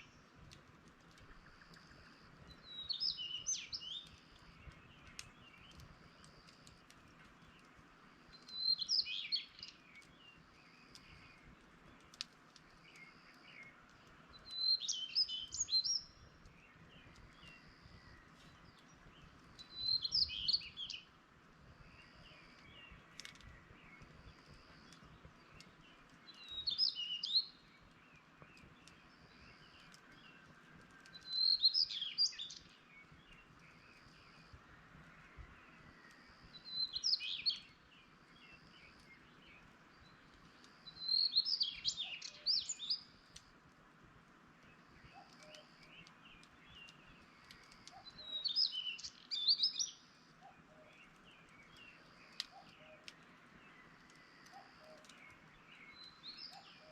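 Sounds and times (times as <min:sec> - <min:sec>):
songbird singing: 0:00.0 - 0:56.9
wood fire crackling: 0:00.0 - 0:56.9.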